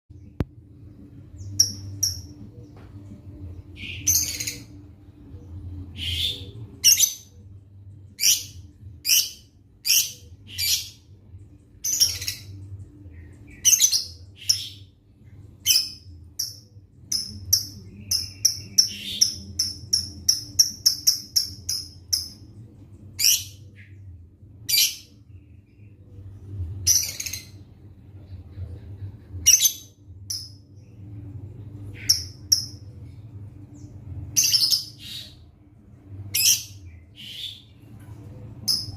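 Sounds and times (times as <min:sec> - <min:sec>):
faint low hum: 0:00.1 - 0:38.9.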